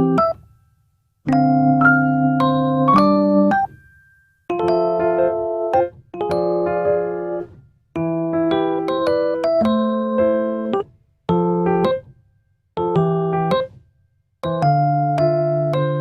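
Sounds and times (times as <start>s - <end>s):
electric piano tune: 0.0s - 0.4s, 1.3s - 12.1s, 12.8s - 13.7s, 14.4s - 16.0s.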